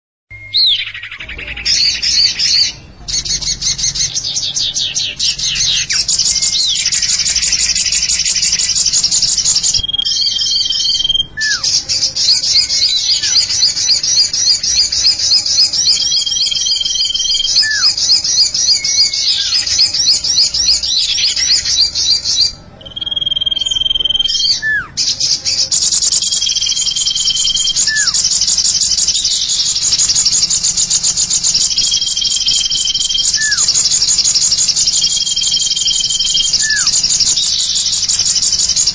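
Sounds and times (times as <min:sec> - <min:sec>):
high chirping bird trills: 0:00.3 - 0:38.9
steady whistled bird note: 0:00.3 - 0:38.9.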